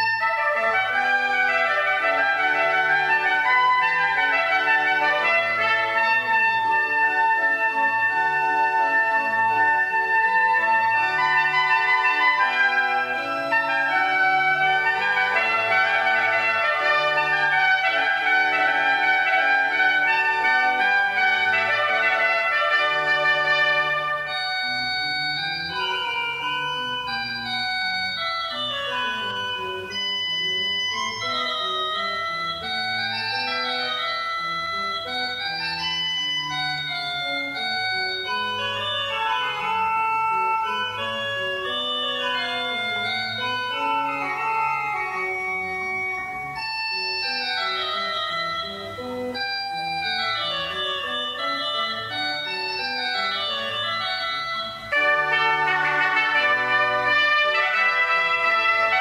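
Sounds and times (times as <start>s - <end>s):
organ-like keyboard music: 0.0s - 59.0s.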